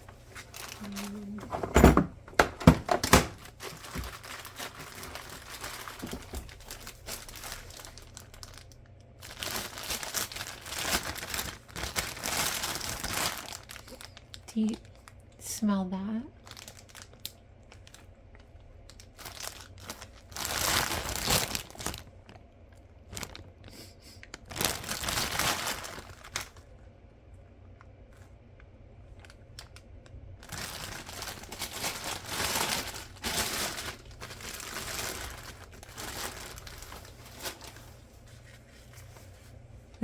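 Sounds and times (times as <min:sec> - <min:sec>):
packaging crinkling and tearing: 0:00.2 - 0:01.4, 0:02.8 - 0:15.2, 0:16.3 - 0:26.7, 0:29.1 - 0:39.6.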